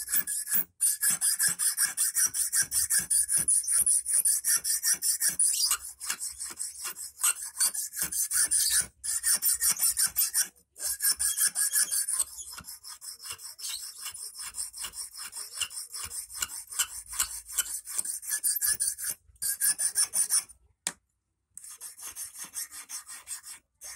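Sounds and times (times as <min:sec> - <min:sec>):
hand file scraping wire: 0:00.0 - 0:20.6, 0:21.6 - 0:23.9.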